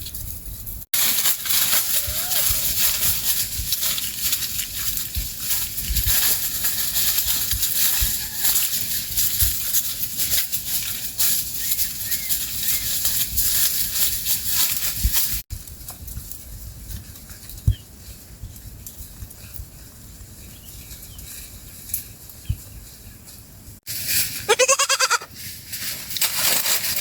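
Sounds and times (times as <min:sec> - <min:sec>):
goats rustling leaves and twigs: 0:00.0 - 0:27.0.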